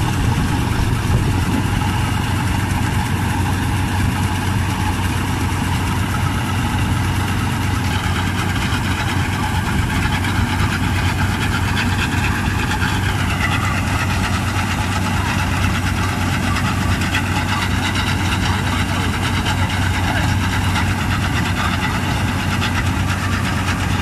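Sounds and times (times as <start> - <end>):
combine harvester engine running: 0.0 - 24.0.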